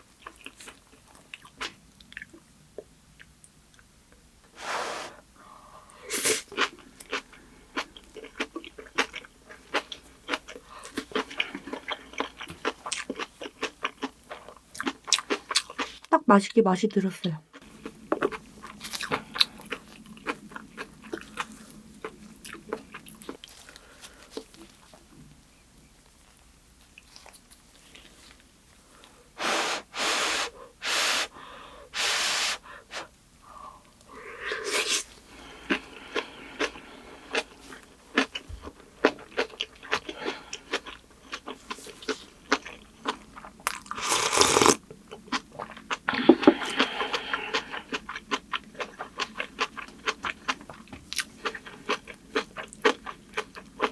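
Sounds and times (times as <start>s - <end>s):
chewing and crunching food: 0.0s - 4.2s, 5.9s - 16.2s, 17.5s - 29.4s, 33.8s - 53.9s.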